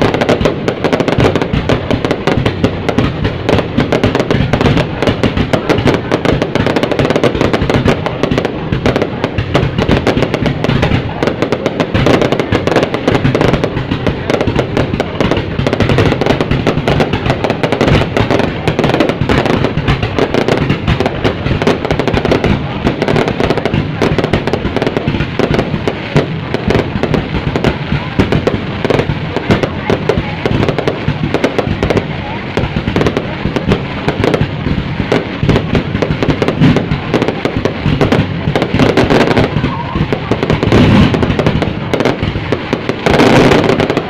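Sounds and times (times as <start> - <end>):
fireworks banging: 0.0 - 44.0.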